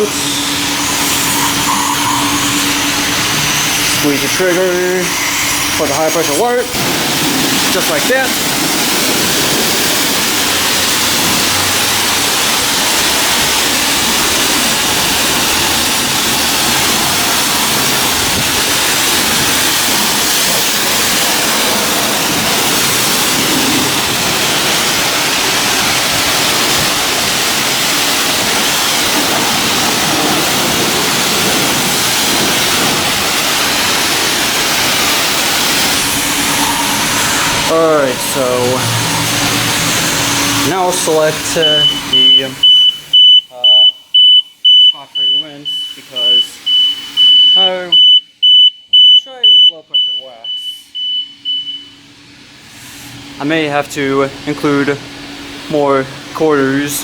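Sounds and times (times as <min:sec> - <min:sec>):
pressure washer spraying water: 0:00.0 - 0:47.9, 0:52.5 - 0:57.0.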